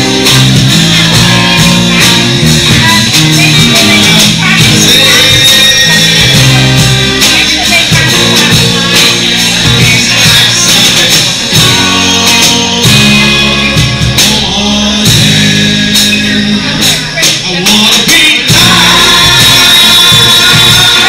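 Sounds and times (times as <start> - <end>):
acoustic and electric guitars strummed: 0.0 - 21.0
cajon beat: 0.0 - 21.0
person singing: 0.0 - 21.0.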